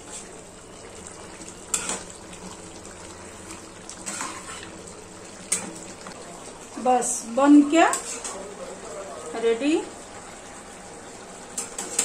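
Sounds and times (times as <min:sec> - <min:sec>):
curry simmering in a pan: 0:00.0 - 0:12.0.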